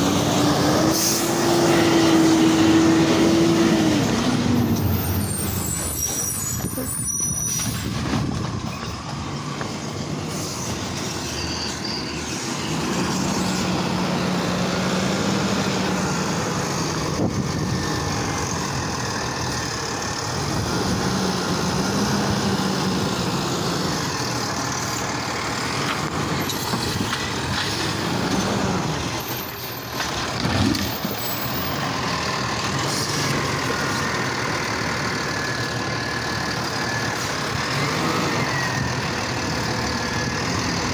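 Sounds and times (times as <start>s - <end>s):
garbage truck engine revving: 0.0s - 7.0s, 12.3s - 40.9s.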